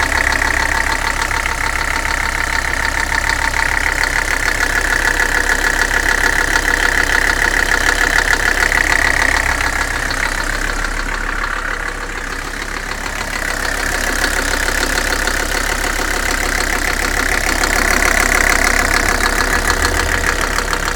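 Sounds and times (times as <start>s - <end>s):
diesel engine knocking: 0.0s - 20.9s.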